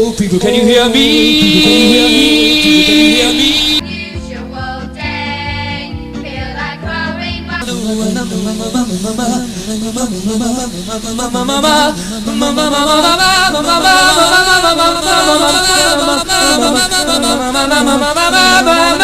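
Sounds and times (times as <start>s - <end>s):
music: 0.0s - 19.0s.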